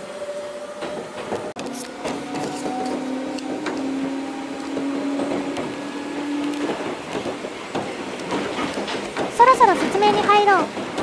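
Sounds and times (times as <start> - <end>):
electric train traction hum: 0.0 - 9.4
train car rolling: 0.0 - 11.0.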